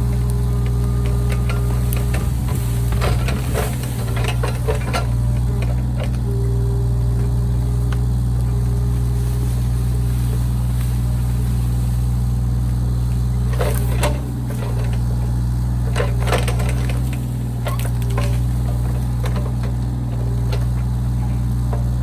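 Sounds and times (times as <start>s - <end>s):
mini excavator engine running: 0.0s - 22.0s
wood crackling and snapping: 0.0s - 22.0s.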